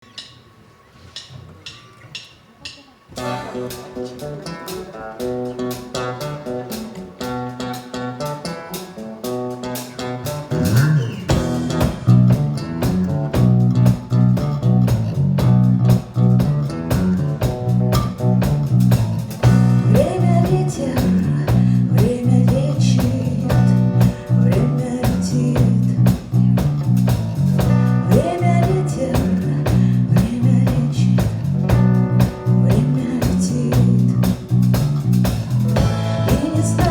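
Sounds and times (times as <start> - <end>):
drums: 0.0 - 36.9
bass guitar: 3.1 - 36.9
guitar picking melody: 3.1 - 36.9.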